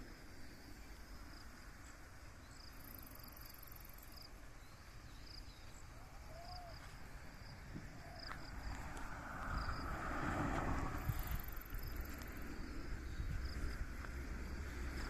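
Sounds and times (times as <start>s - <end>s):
insect chirps: 0.0s - 15.0s.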